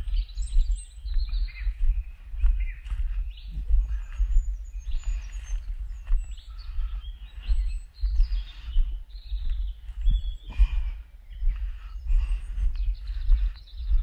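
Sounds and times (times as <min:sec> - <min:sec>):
faint high bird chirps: 0:00.0 - 0:14.0
footsteps on forest trail: 0:00.0 - 0:14.0
steady low rumble: 0:00.0 - 0:14.0.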